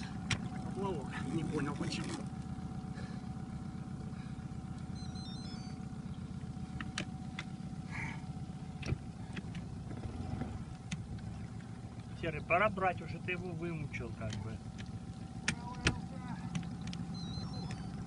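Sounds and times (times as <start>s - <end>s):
outboard motor idling: 0.0s - 18.0s.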